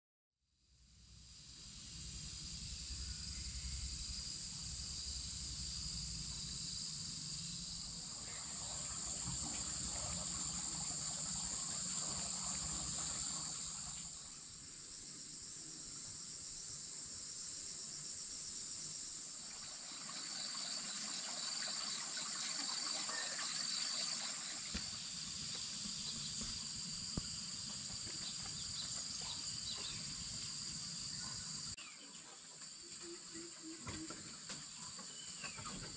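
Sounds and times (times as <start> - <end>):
insects trilling: 1.0 - 35.9
pulsed insect chirping: 1.1 - 31.9.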